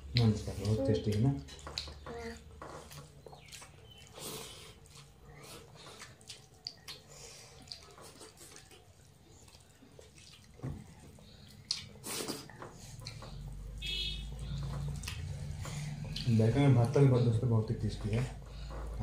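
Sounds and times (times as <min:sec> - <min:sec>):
fingers squelching food: 0:00.0 - 0:19.0
mouths chewing: 0:00.0 - 0:19.0.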